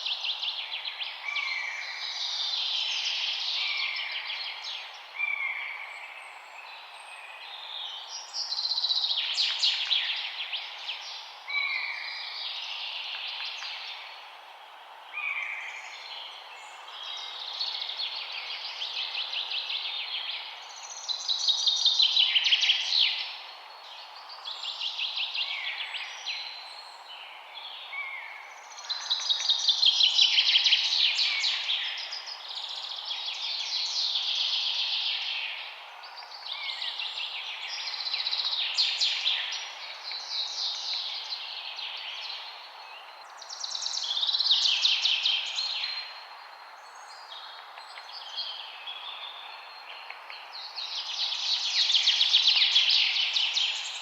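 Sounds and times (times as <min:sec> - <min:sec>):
songbirds chirping and trilling: 0:00.0 - 0:54.0
steady background hiss: 0:00.0 - 0:54.0.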